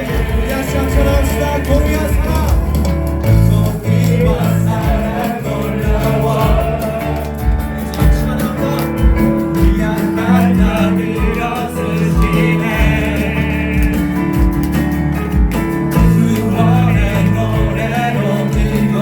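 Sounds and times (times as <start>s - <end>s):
band playing worship song: 0.0s - 19.0s
bass: 0.0s - 19.0s
person singing: 0.0s - 19.0s
steady drum beat: 0.0s - 19.0s.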